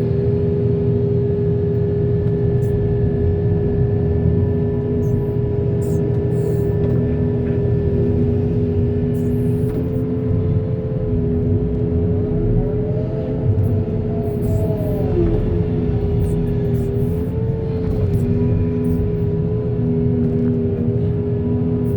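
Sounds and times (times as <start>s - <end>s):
steady whine: 0.1s - 21.9s
diesel engine rumbling: 2.1s - 21.9s.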